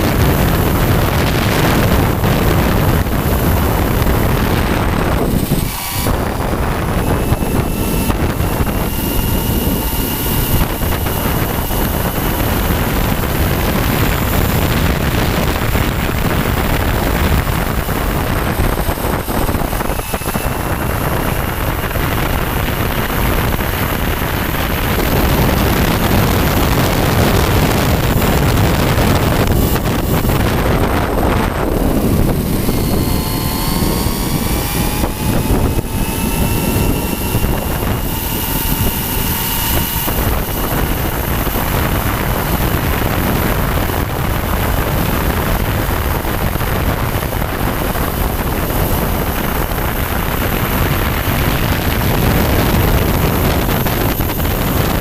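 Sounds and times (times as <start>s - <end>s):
electric motor and gear whine: 0.0s - 55.0s
tyre and drivetrain rush: 0.0s - 55.0s
wind on microphone: 0.0s - 55.0s.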